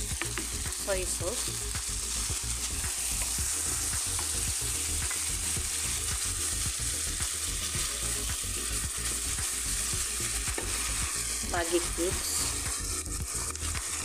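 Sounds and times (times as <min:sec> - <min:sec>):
vegetables sizzling in a wok: 0:00.0 - 0:14.0.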